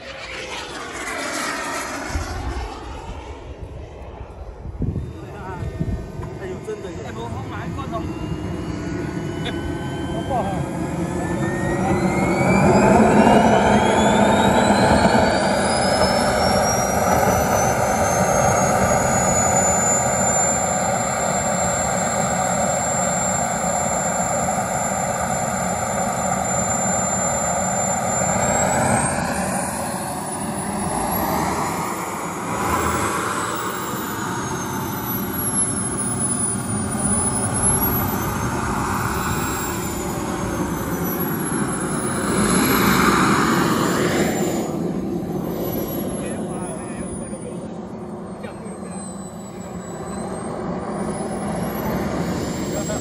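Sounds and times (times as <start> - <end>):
jet turbine whine: 0.0 - 53.0.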